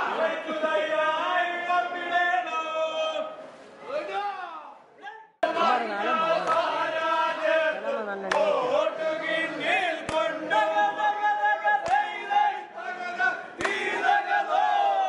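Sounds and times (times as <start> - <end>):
group of voices chanting: 0.0 - 2.8, 5.4 - 15.0.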